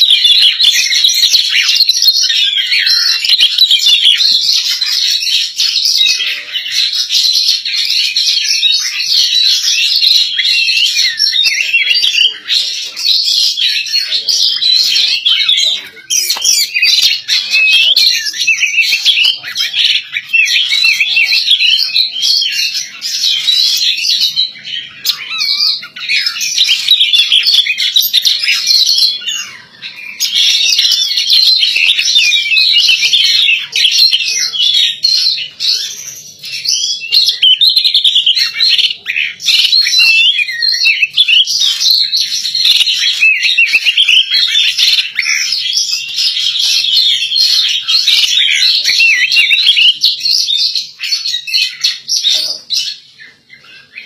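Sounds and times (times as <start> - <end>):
bird singing warbling song: 0.0 - 54.0.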